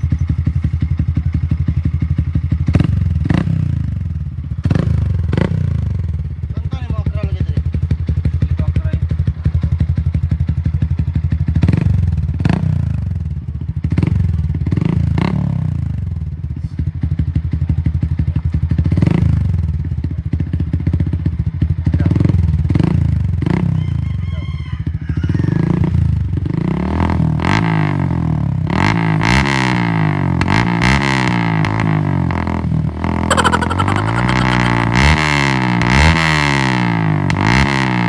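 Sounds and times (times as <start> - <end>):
motorcycle engine idling and revving: 0.0 - 38.0.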